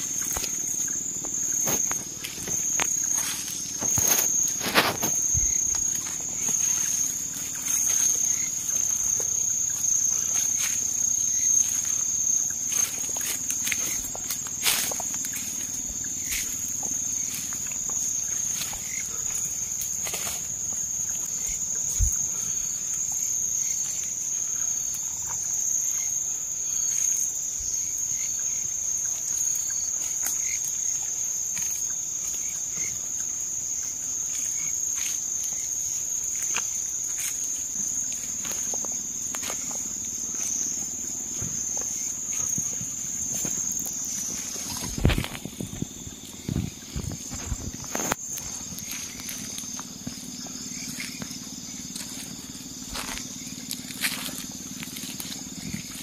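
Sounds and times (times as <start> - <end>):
night insects droning: 0.0 - 56.0.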